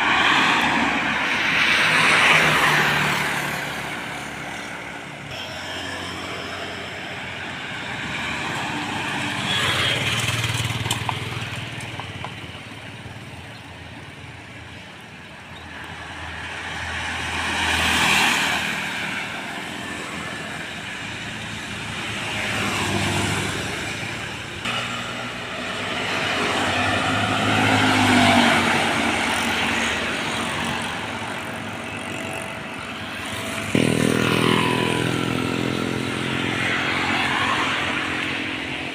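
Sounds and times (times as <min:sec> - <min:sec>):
loud engine: 0:00.0 - 0:11.7, 0:16.4 - 0:38.9
heavy vehicles passing: 0:00.0 - 0:38.9.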